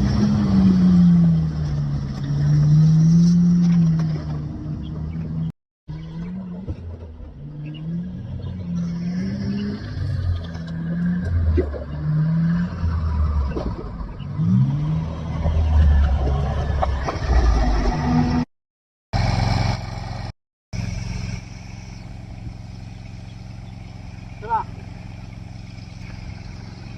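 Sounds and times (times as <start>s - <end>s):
engine running and revving: 0.0s - 18.5s, 19.2s - 26.9s.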